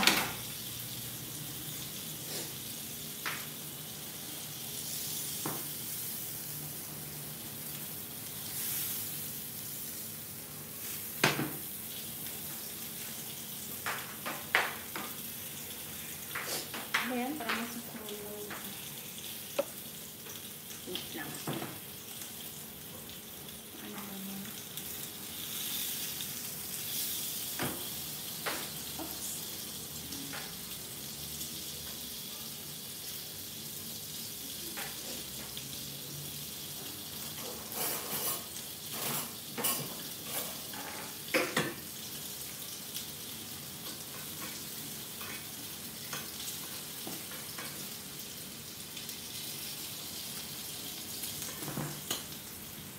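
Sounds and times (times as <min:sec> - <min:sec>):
fish sizzling in oil: 0:00.0 - 0:52.9.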